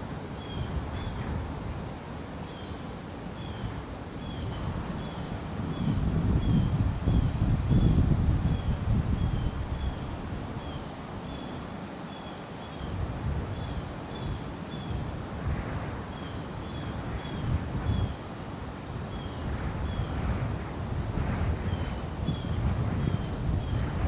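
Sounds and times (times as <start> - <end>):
wind gusting against microphone: 0.0 - 24.0.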